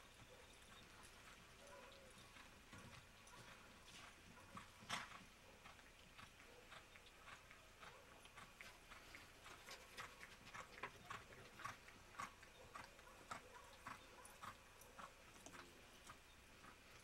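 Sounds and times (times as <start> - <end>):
hoofbeats on soft dirt: 0.0 - 17.0.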